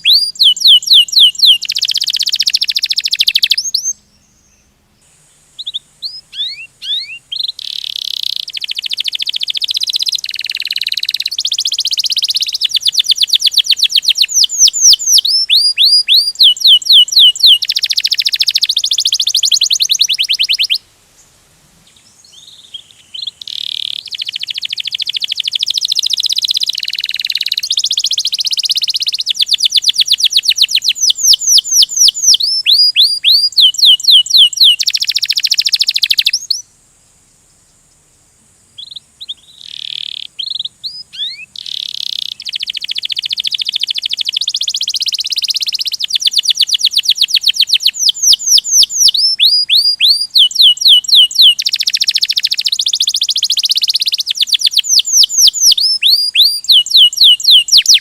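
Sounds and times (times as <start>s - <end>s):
canary singing trills: 0.0s - 21.3s, 21.9s - 36.7s, 38.8s - 58.0s.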